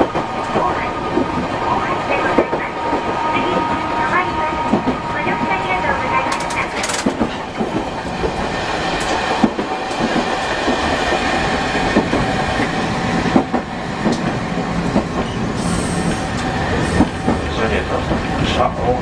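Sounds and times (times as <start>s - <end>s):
streetcar wheels rumbling: 0.0s - 19.0s.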